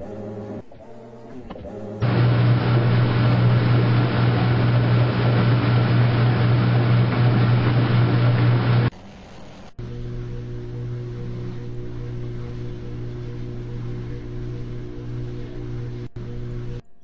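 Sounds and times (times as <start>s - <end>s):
washing machine running: 2.0s - 16.8s.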